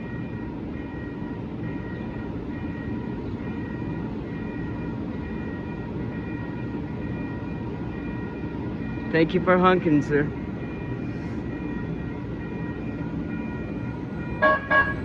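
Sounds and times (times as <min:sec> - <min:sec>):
light rail train running: 0:00.0 - 0:15.0.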